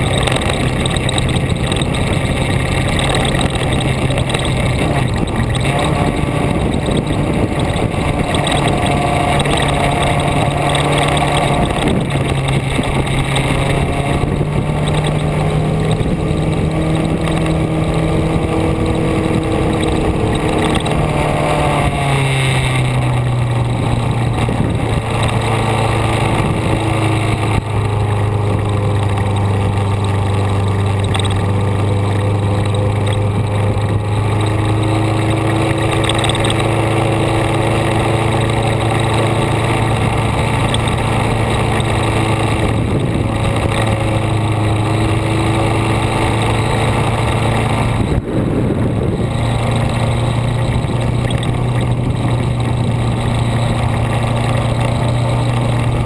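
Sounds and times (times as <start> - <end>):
vehicle engine driving: 0.0 - 56.0.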